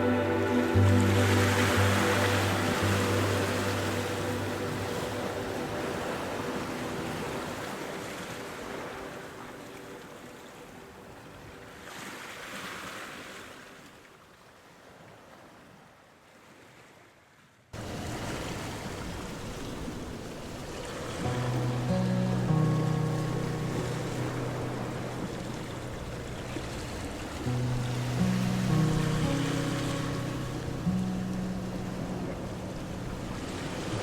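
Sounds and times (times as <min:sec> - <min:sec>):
ocean waves washing on shore: 0:00.0 - 0:17.1, 0:17.8 - 0:34.0.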